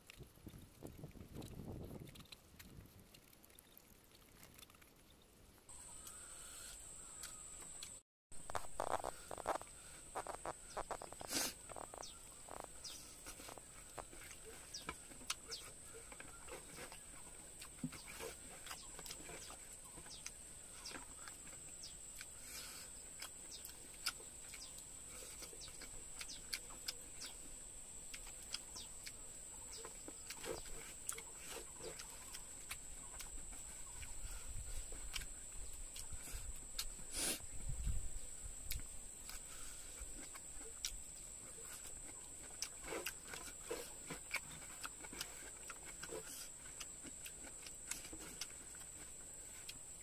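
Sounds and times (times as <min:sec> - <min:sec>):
chewing and lip-smacking: 0:00.0 - 0:05.1, 0:07.2 - 0:27.5, 0:28.1 - 0:37.0, 0:38.6 - 0:49.8.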